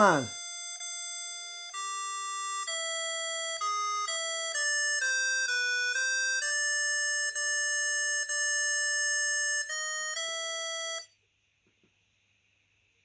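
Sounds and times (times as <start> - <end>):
electronic phone ringtone: 0.0 - 11.1.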